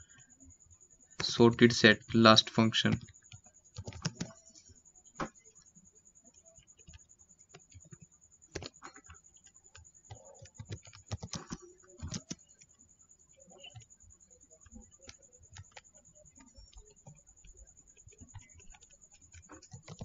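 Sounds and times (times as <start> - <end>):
computer keyboard typing: 2.3 - 5.6, 6.2 - 20.0.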